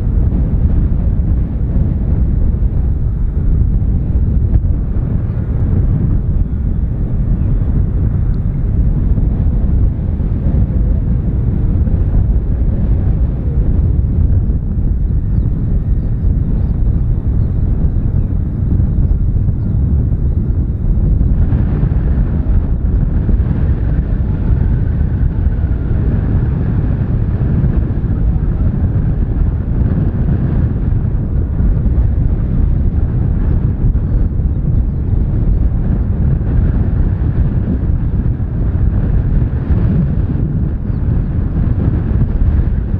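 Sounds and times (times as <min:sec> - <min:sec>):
jet airliner landing rumble: 0:00.0 - 0:42.9
wind buffeting microphone: 0:00.0 - 0:42.9.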